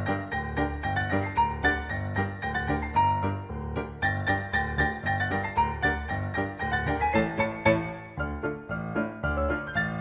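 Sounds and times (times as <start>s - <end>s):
keyboard tune: 0.0s - 10.0s.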